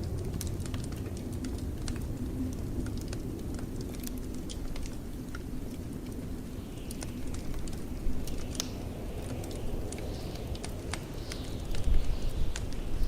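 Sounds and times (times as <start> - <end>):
blizzard wind rumble: 0.0 - 13.0
wood fire crackling and popping: 0.0 - 13.0.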